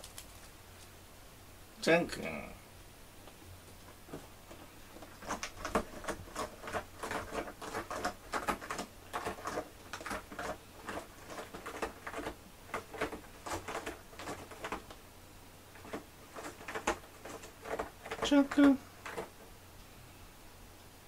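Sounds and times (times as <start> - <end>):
rustling and crackling: 0.0 - 1.1, 3.2 - 19.6.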